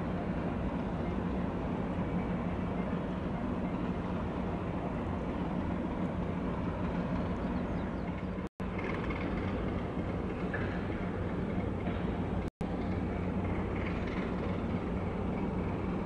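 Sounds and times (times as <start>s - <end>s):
heavy machinery rumbling: 0.0s - 16.0s.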